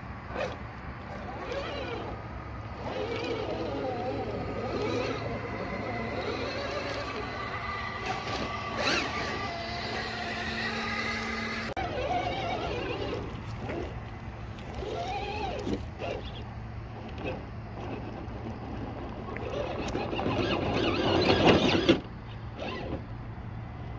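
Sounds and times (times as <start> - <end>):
rc car electric motor whine: 0.0 - 23.2.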